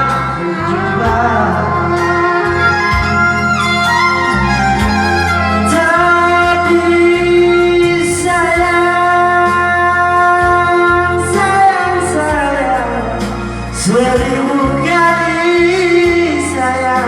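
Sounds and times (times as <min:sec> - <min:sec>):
held melody notes: 0:00.0 - 0:16.8
low bass line: 0:00.0 - 0:17.0.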